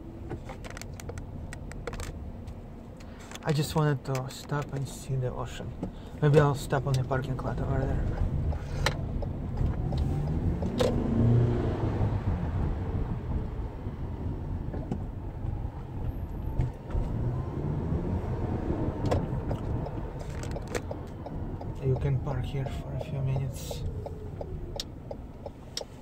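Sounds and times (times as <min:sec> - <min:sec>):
car engine: 0:00.0 - 0:26.0
road noise inside car: 0:00.0 - 0:26.0.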